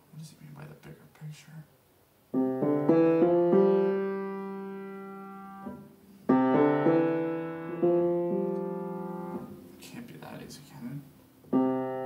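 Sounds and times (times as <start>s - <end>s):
upright piano chords: 2.3s - 12.0s.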